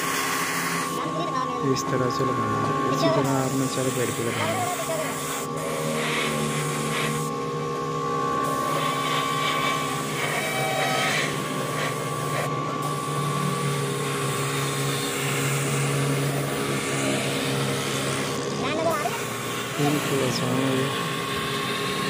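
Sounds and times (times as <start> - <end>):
air machine humming: 0.0 - 22.0
spray gun hissing: 2.9 - 7.4, 8.4 - 22.0.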